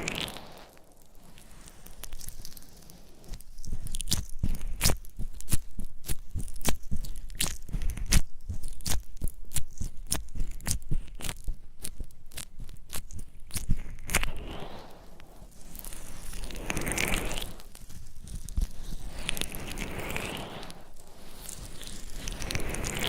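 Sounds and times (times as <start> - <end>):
crisp crunching clicks: 0.0 - 14.4, 15.2 - 23.0.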